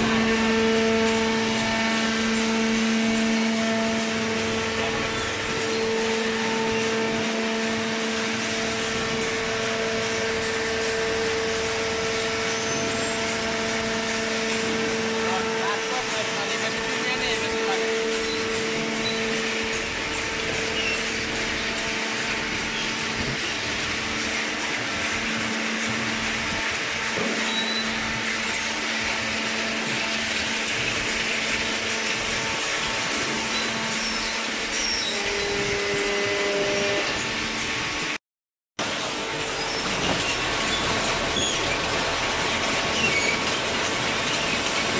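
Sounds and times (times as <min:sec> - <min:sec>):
machine humming and whining: 0:00.0 - 0:38.2, 0:38.8 - 0:44.9.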